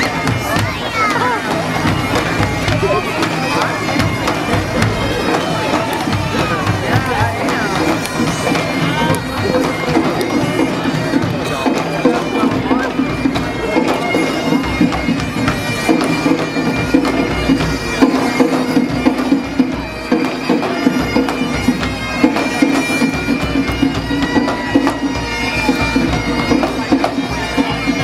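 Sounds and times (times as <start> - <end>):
bagpipes playing over drone: 0.0 - 28.0
drum beating: 0.0 - 28.0.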